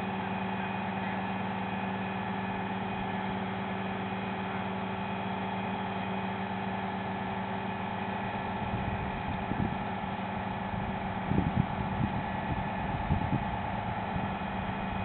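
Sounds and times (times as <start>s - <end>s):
crane engine humming: 0.0s - 15.0s.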